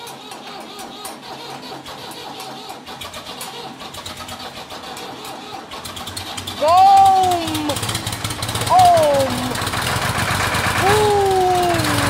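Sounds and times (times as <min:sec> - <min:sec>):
old tractor engine running: 0:00.0 - 0:12.0.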